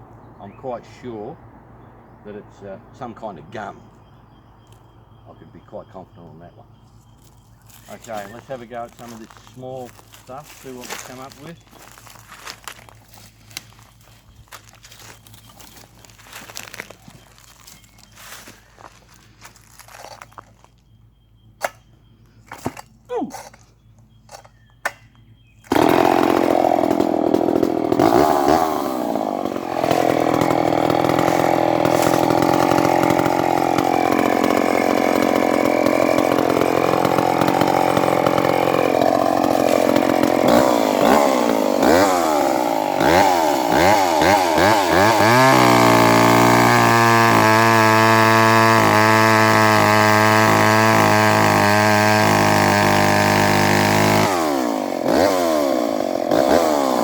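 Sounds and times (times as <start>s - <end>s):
chainsaw cutting logs: 7.1s - 20.8s, 21.6s - 57.0s.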